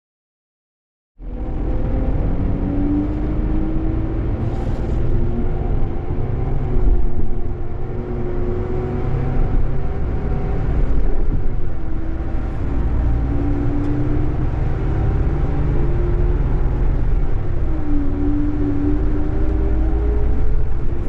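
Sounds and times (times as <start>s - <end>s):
coach engine and road rumble: 1.2s - 21.0s
humming engine note: 1.2s - 21.0s.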